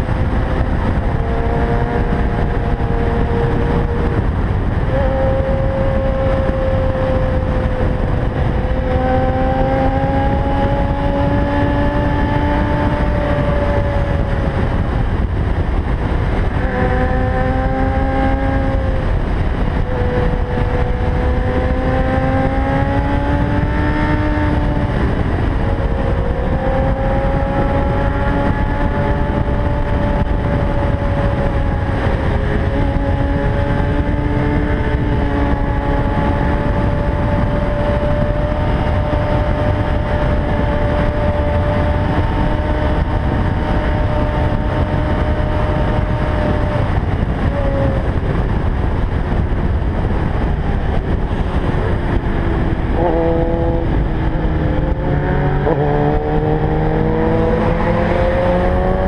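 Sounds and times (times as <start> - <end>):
motorcycle engine at high revs: 0.0 - 59.0
wind rumble on microphone: 0.0 - 59.0.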